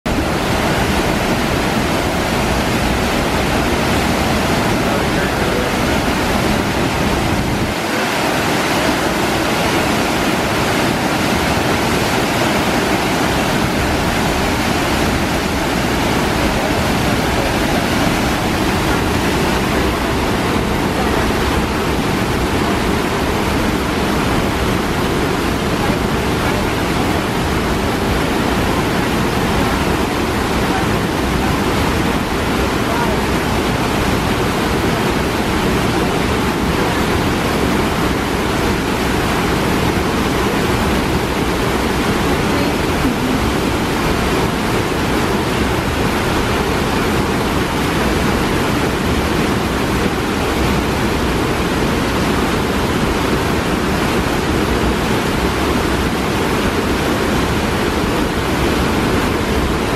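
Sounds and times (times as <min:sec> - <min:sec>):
stream rushing over rocks: 0:00.1 - 0:59.9.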